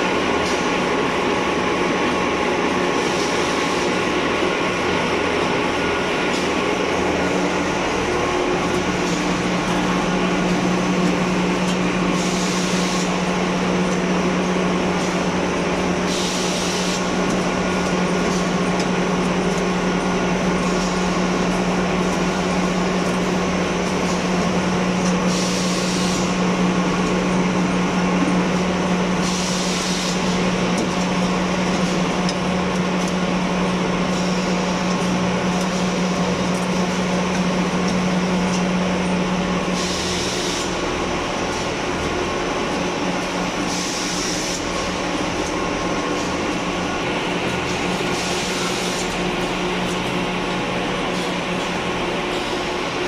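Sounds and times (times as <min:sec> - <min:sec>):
machine drone: 0:00.0 - 0:53.0.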